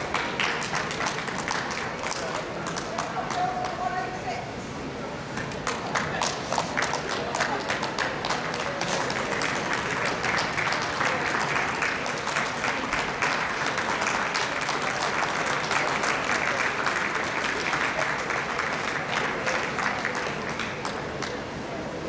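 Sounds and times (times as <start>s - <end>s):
audience applauding: 0.0s - 3.8s, 5.6s - 21.5s.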